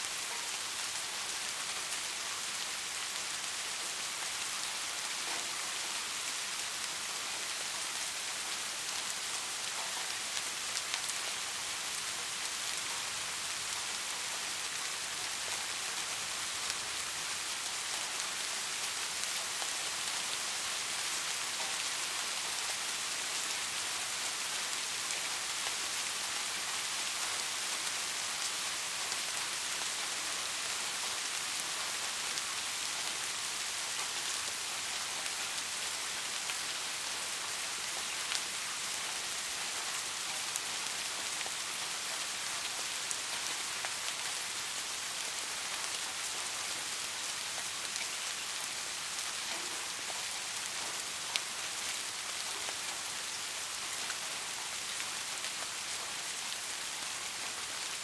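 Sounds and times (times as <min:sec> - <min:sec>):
rain drops ticking: 0:00.0 - 0:58.0
steady rain hiss: 0:00.0 - 0:58.0.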